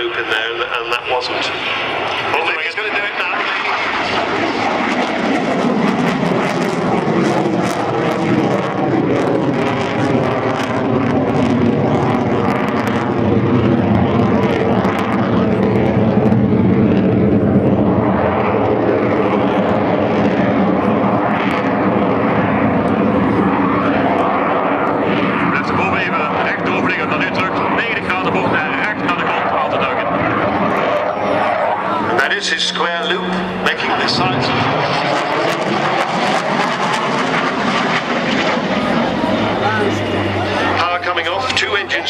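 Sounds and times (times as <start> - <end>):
fighter jet roar: 0.0 - 42.0.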